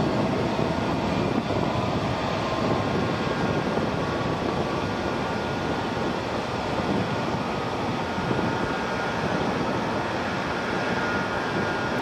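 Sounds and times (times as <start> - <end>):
boat engine drone: 0.0 - 12.0
rushing wind: 0.0 - 12.0.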